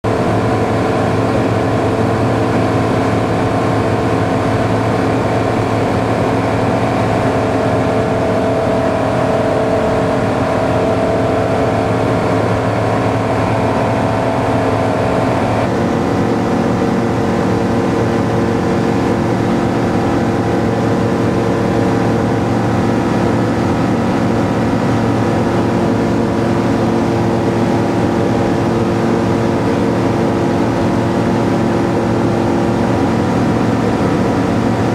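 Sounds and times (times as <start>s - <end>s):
light aircraft engine drone: 0.0s - 34.9s.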